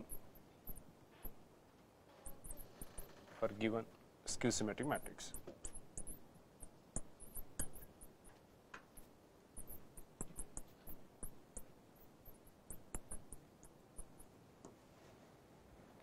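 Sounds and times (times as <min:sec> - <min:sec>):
marker squeaking on a board: 0:00.0 - 0:01.5, 0:02.2 - 0:03.6, 0:04.3 - 0:14.4.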